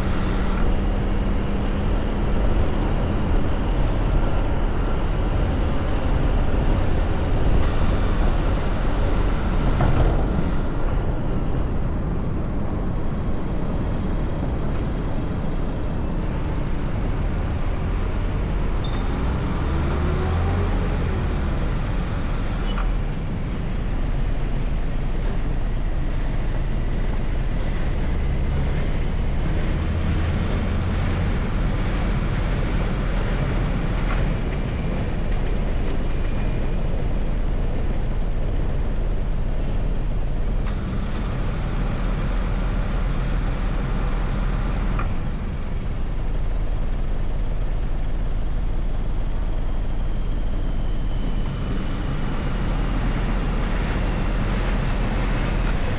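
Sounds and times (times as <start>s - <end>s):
car road noise: 0.0s - 55.9s
low engine hum: 0.0s - 55.9s.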